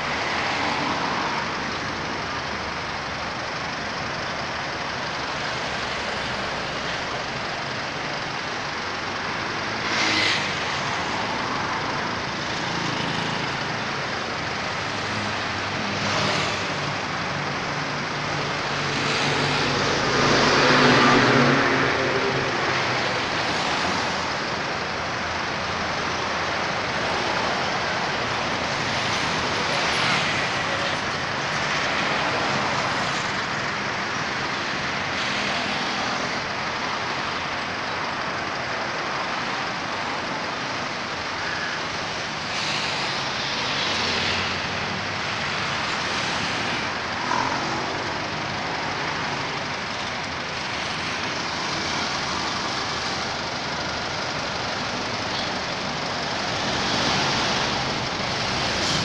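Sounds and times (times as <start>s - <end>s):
busy road traffic: 0.0s - 59.0s.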